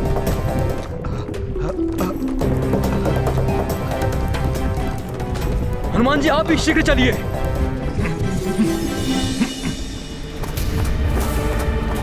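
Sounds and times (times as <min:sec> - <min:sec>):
dramatic orchestral score: 0:00.0 - 0:12.0.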